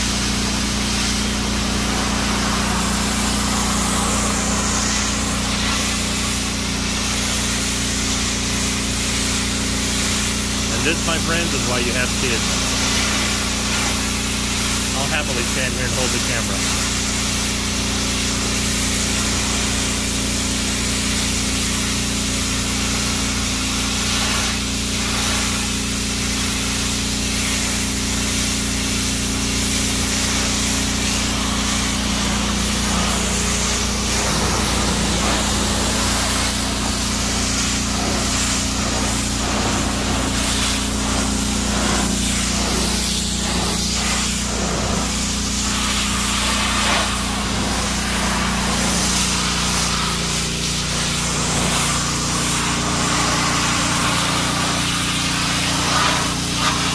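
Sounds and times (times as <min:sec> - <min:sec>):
pressure washer jet hissing: 0:00.0 - 0:56.9.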